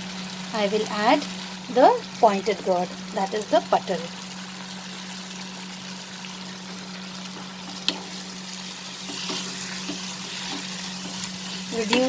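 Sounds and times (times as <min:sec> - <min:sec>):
spices and oil sizzling in a pan: 0:00.0 - 0:12.0.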